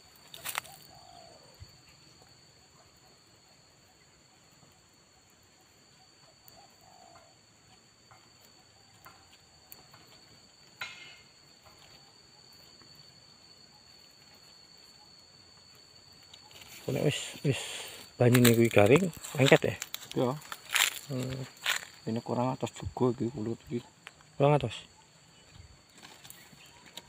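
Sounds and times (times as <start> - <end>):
high-pitched insect drone: 0.0 - 27.0.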